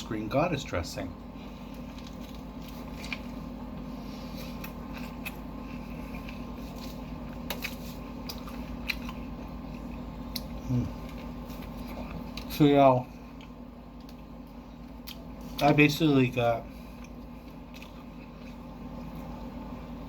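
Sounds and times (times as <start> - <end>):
steady low hum: 0.0 - 20.0
chewing sandwich: 1.3 - 16.0, 16.6 - 20.0.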